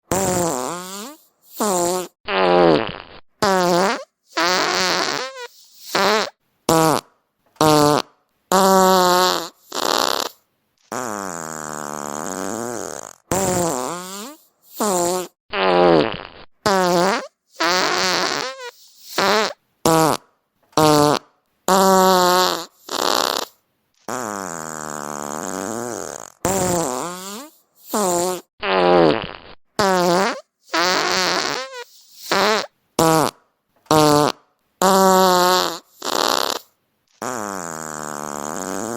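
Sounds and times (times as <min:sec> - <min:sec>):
fart sounds: 0:00.0 - 0:38.9.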